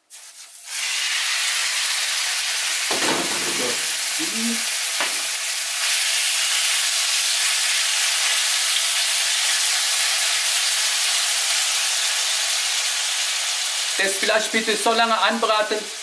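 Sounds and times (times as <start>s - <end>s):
beef sizzling in oil: 0.0s - 16.0s.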